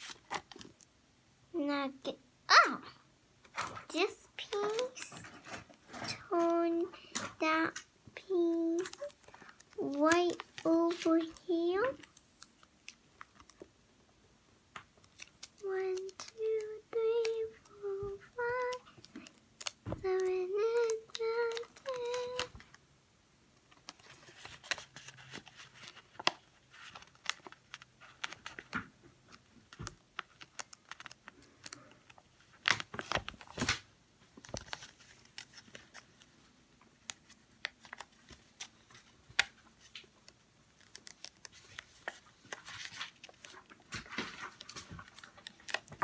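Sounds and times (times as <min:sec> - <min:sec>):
paper crinkling and rustling: 0:00.0 - 0:00.9, 0:03.6 - 0:07.7, 0:08.3 - 0:13.7, 0:15.0 - 0:22.8, 0:23.7 - 0:46.0.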